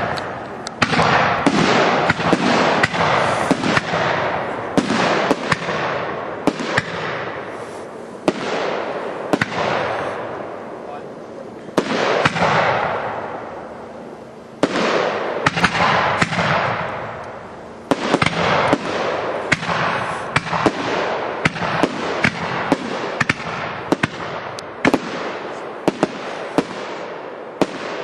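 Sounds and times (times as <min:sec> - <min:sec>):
fireworks hissing: 0:00.0 - 0:27.9
fireworks bangs: 0:00.0 - 0:28.0.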